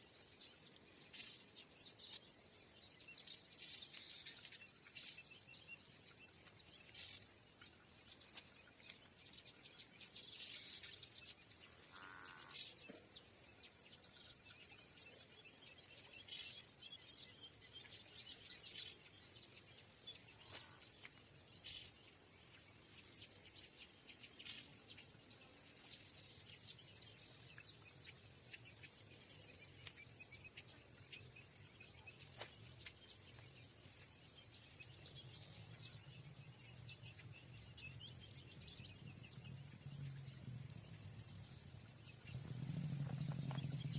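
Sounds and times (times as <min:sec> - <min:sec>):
insects chirring: 0:00.3 - 0:43.9.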